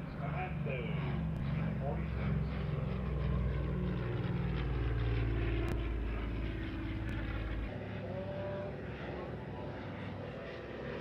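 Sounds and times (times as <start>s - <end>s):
piston engine aircraft flying past: 0.0s - 11.0s.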